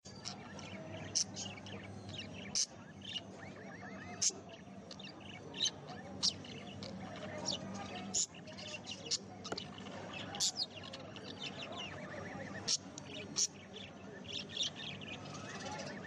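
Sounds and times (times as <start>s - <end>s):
parrots chirping and warbling: 0.0s - 16.0s.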